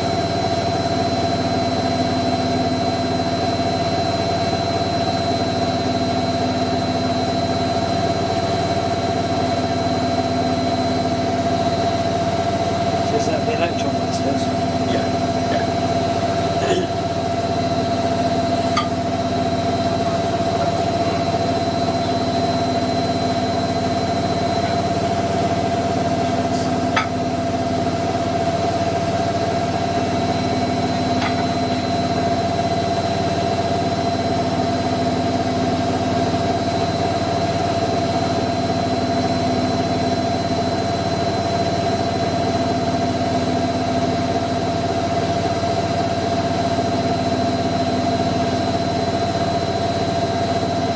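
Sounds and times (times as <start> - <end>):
washing machine humming: 0.0 - 50.9.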